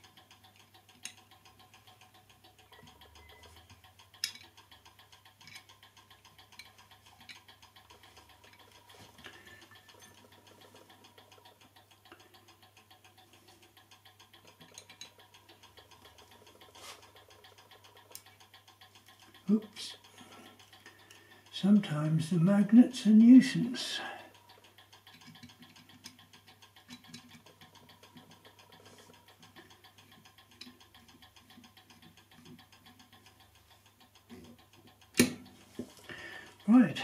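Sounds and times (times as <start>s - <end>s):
small metallic clicks and taps: 0.0s - 22.0s, 22.6s - 37.0s
faint fast clock ticking: 0.0s - 37.0s.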